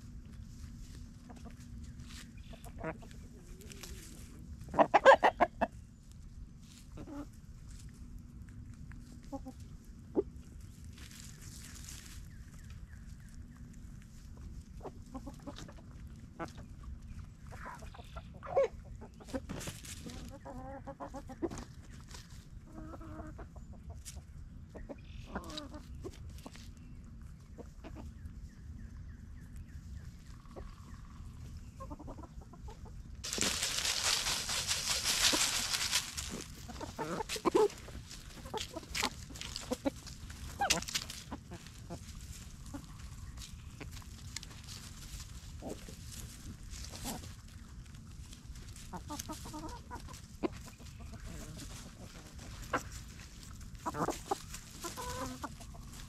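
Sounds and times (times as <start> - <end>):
chickens clucking softly: 0.0 - 56.0.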